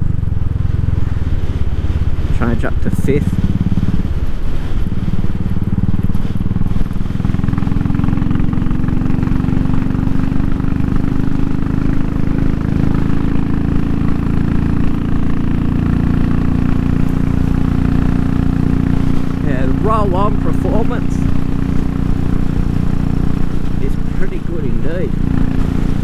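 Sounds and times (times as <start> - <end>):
single-cylinder motorcycle engine pulling: 0.0 - 26.0.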